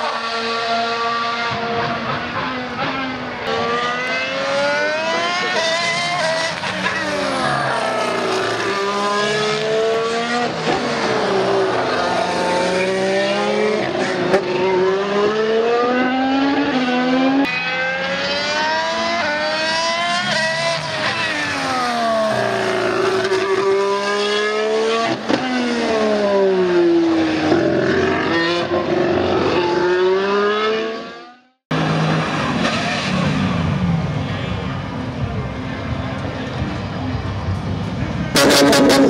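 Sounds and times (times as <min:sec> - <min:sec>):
racing car engine at high revs: 0:00.0 - 0:35.0, 0:36.2 - 0:39.0.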